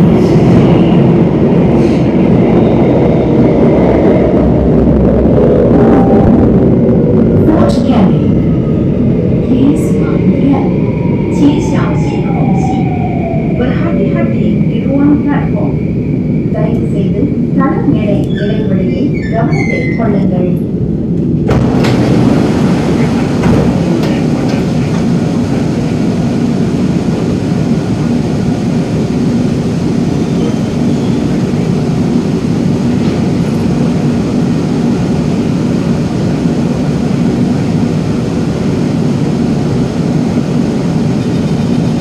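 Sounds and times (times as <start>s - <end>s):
station noise: 0.0s - 42.0s
train air-conditioning hum: 0.0s - 42.0s.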